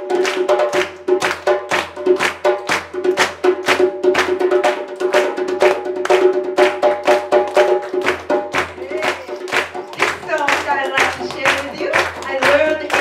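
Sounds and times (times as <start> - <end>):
djembe played with hands: 0.0 - 13.0
hand-clapping: 0.0 - 13.0.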